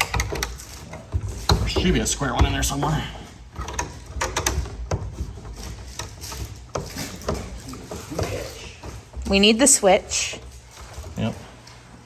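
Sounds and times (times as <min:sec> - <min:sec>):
small hard parts clicking: 0:00.0 - 0:11.3.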